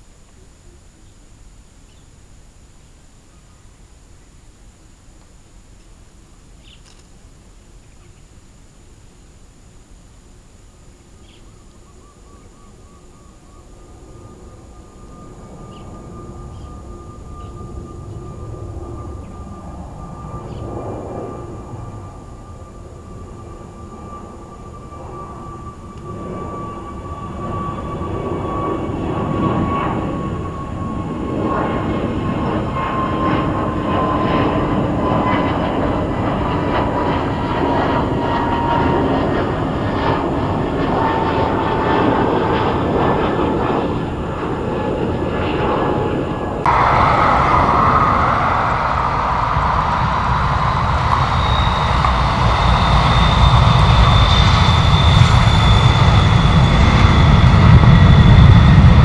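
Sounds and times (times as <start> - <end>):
jet airliner engines: 11.0 - 59.0.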